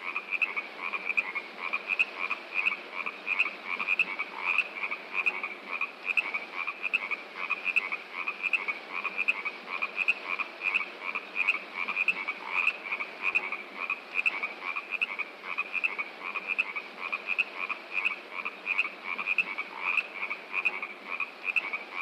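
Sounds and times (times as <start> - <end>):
frogs calling: 0.0 - 22.0
rushing water: 0.0 - 22.0.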